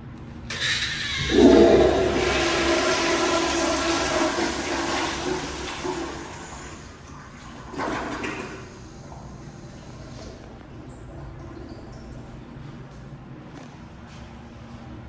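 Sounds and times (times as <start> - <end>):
toilet flushing: 0.5 - 12.8.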